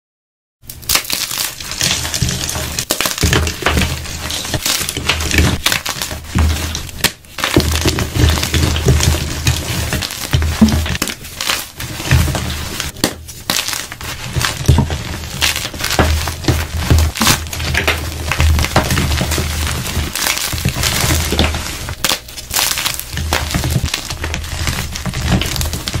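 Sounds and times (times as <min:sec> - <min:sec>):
chalk blocks crunching and crumbling: 0:00.7 - 0:26.0.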